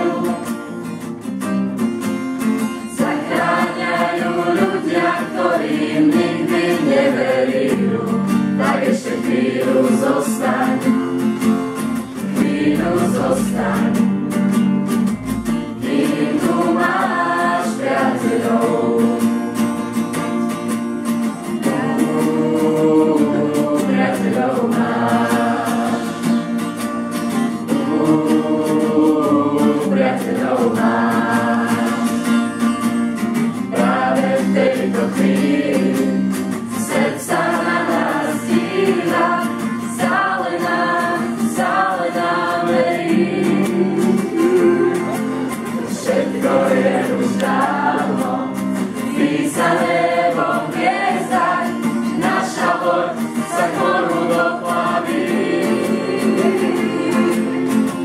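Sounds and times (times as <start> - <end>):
group singing: 0.0 - 1.0, 2.6 - 20.1, 21.4 - 58.0
instrumental accompaniment: 0.0 - 58.0.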